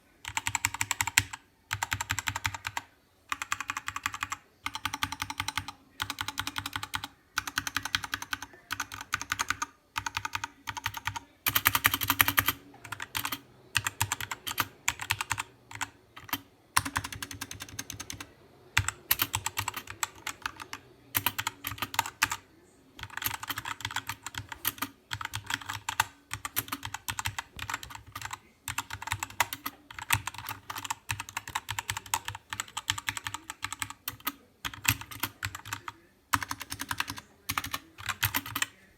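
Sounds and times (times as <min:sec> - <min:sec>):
mechanical keyboard typing: 0:00.2 - 0:22.4, 0:23.0 - 0:38.8.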